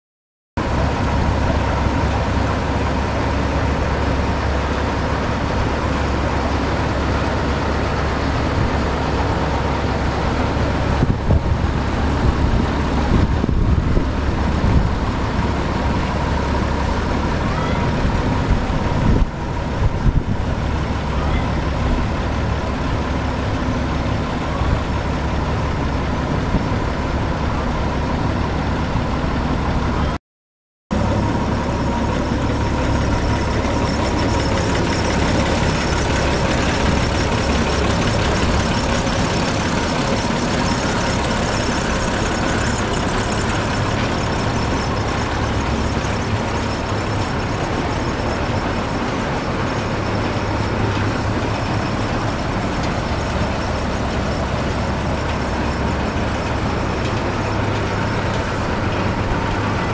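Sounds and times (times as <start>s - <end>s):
combine harvester engines rumbling: 0.6s - 30.2s, 30.9s - 59.9s.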